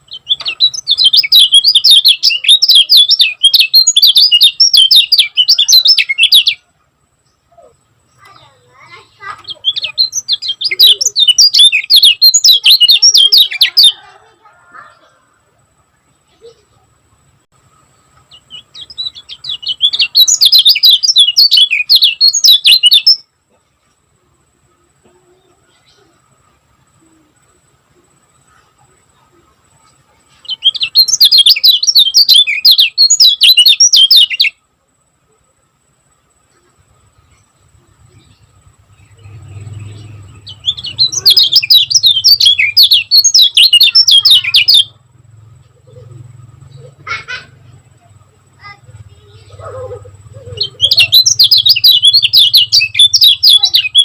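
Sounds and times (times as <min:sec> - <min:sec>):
bird singing high chirps: 0:00.0 - 0:15.1, 0:17.6 - 0:23.4, 0:24.7 - 0:34.6, 0:36.4 - 0:54.0.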